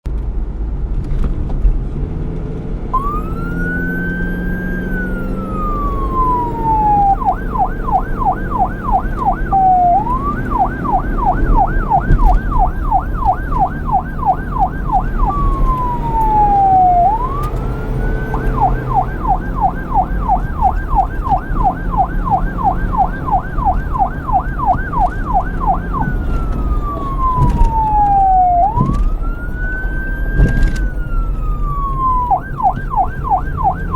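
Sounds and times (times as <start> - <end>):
police siren wailing and yelping: 3.0 - 33.9.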